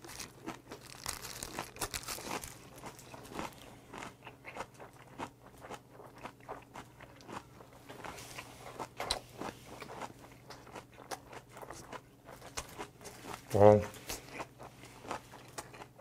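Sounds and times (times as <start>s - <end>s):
cabbage crunching: 0.0s - 16.0s
person chewing food: 0.0s - 16.0s.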